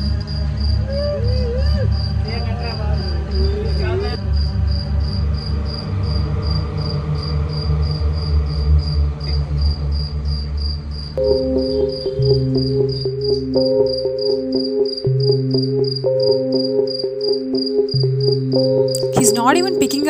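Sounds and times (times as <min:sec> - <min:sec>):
cricket chirping: 0:00.0 - 0:19.4.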